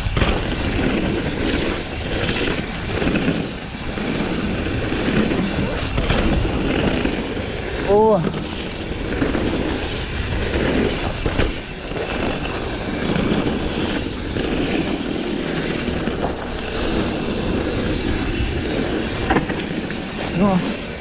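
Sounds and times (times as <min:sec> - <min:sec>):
bike tyres rolling on dirt: 0:00.0 - 0:21.0
wind on microphone: 0:00.0 - 0:21.0.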